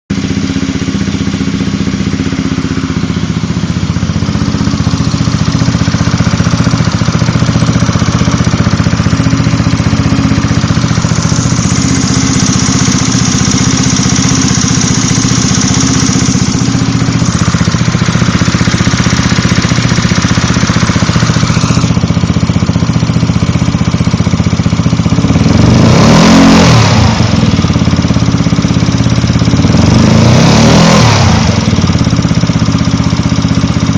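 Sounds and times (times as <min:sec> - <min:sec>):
engine ticking: 0:00.1 - 0:33.9
scooter engine idling: 0:00.1 - 0:33.9
engine revving: 0:00.2 - 0:33.9.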